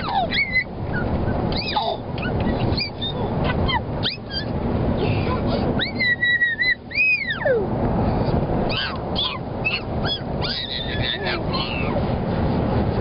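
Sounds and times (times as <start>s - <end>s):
child squeaking: 0.0s - 7.6s, 8.7s - 12.0s
road noise inside moving car: 0.0s - 13.0s.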